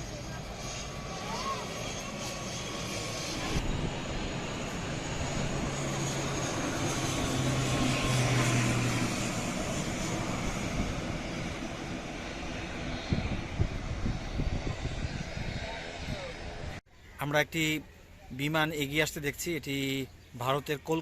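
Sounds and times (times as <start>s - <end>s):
turboprop airliner passing: 0.0s - 20.9s.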